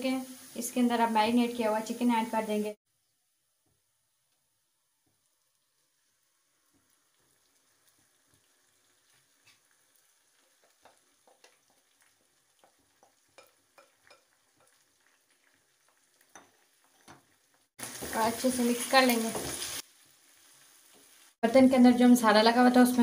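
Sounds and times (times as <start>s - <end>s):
chicken frying sizzle: 0.0s - 23.0s
crackles and pops of frying: 0.0s - 23.0s.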